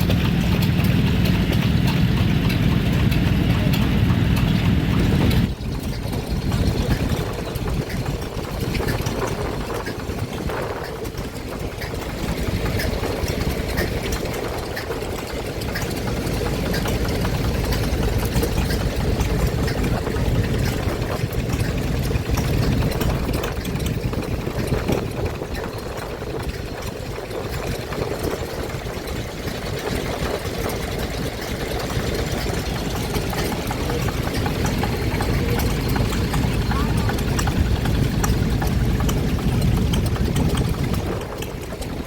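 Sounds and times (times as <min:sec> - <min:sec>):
stationary engine running: 0:00.0 - 0:42.0.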